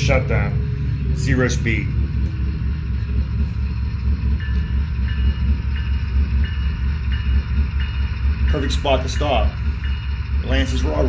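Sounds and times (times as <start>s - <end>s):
diesel locomotive engine idling: 0.0s - 11.0s.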